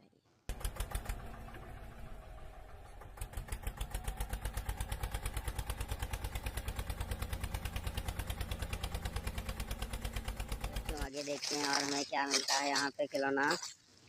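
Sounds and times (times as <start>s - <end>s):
tractor engine putt-putt: 0.5s - 14.0s.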